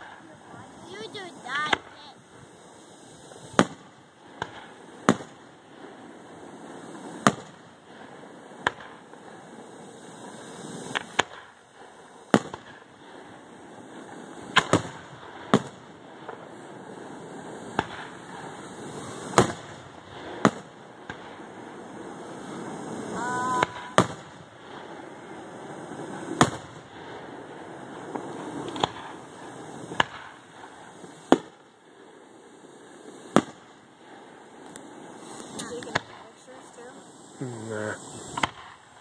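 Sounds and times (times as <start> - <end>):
firework shells bursting: 0.0 - 39.0
steady background hiss: 0.0 - 39.0.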